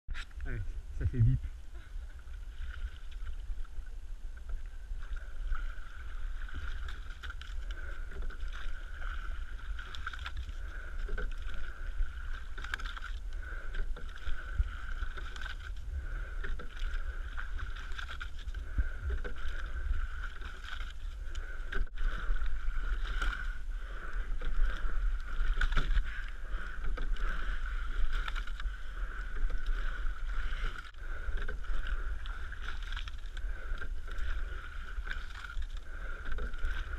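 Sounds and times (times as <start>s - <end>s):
steady low rumble: 0.1s - 36.9s
sculling oar strokes: 1.4s - 36.9s.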